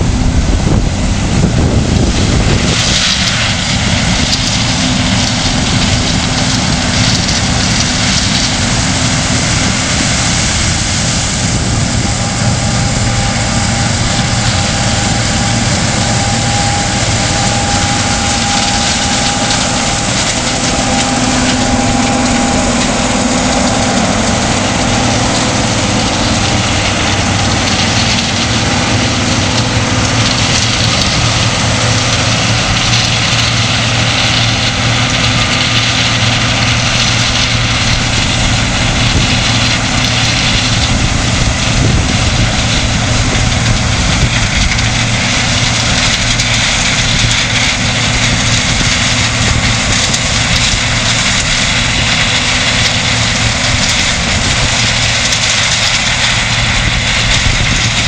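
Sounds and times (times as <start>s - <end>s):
combine harvester humming: 0.0s - 58.0s
tractor running: 0.0s - 58.0s.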